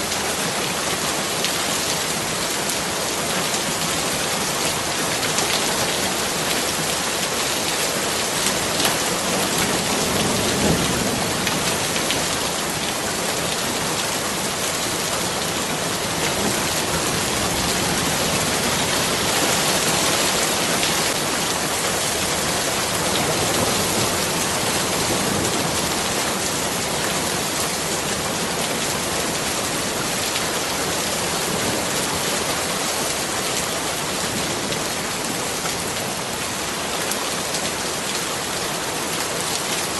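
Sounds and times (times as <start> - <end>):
heavy rain hissing: 2.1 - 35.2.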